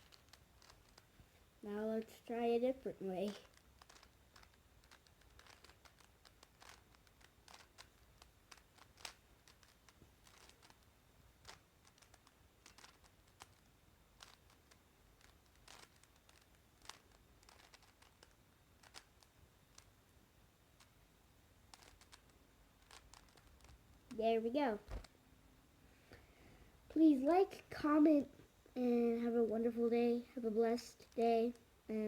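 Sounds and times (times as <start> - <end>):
speedcube layers clicking: 0.0 - 25.1, 30.4 - 31.8.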